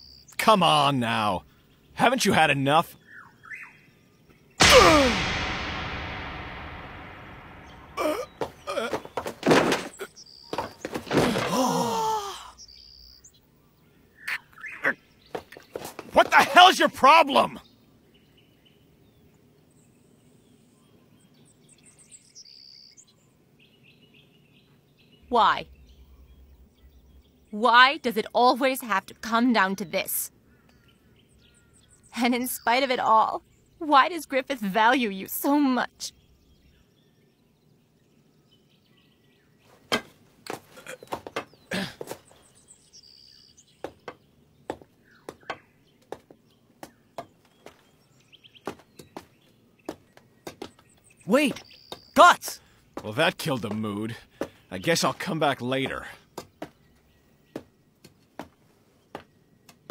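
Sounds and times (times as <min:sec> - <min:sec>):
birds chirping: 0:00.0 - 0:05.4, 0:06.1 - 0:59.9.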